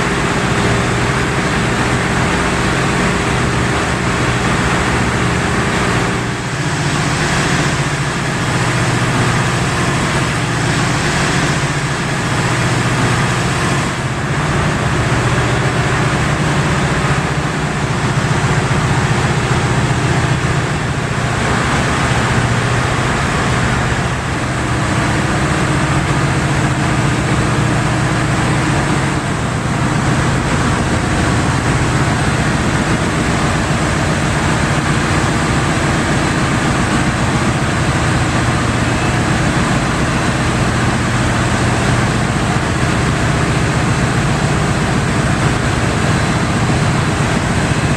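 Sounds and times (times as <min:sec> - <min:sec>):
gas engine driving compressor: 0:00.0 - 0:47.9.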